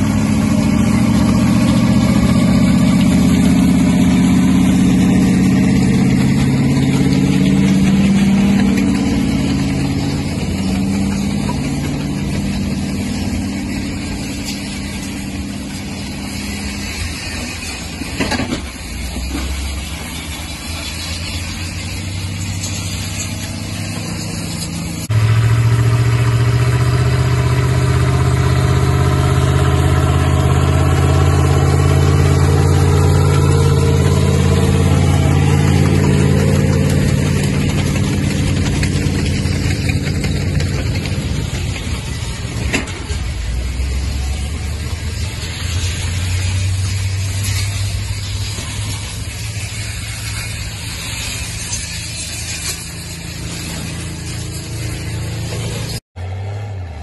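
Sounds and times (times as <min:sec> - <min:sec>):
tractor engine drone: 0:00.0 - 0:57.0.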